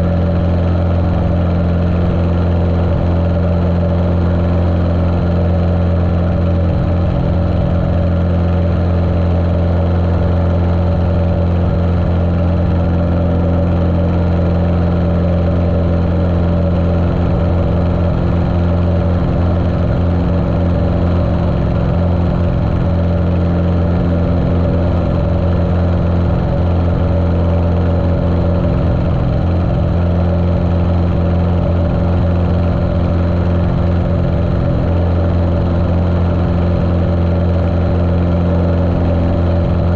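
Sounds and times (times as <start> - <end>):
muffled aircraft engine running: 0.0 - 39.9.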